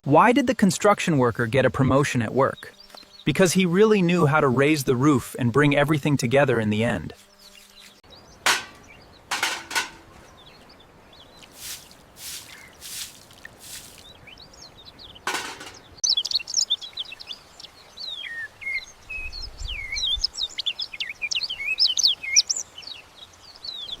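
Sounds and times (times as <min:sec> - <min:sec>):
birds chirping: 0:00.8 - 0:24.0.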